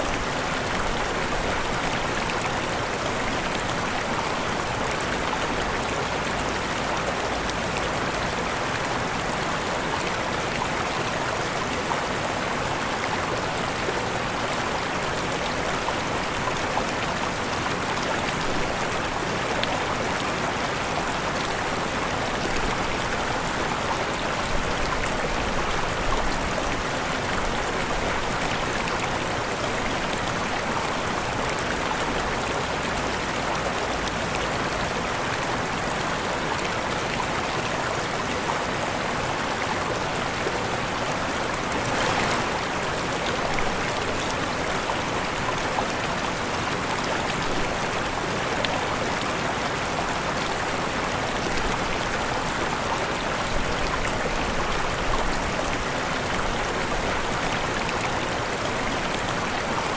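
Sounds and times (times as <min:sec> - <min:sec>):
waterfall rushing: 0:08.7 - 0:59.9.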